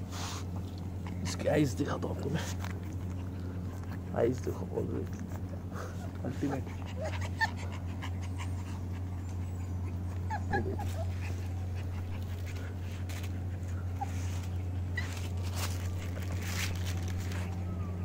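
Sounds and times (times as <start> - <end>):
steady low hum: 0.0 - 18.0
puppy whimpering: 0.1 - 18.0.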